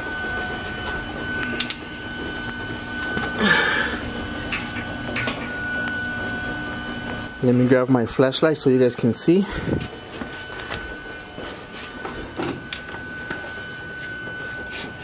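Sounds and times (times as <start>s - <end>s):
electrical hum and whine: 0.0s - 15.0s.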